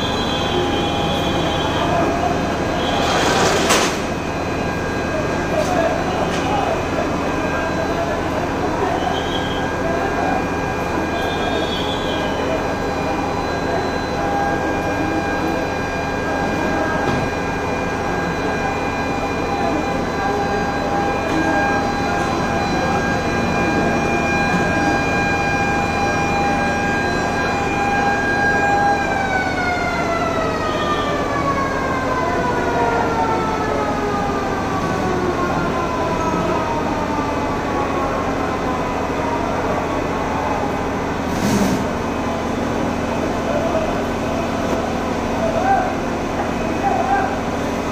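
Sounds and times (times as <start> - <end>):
fire engine siren: 0.0 - 47.9.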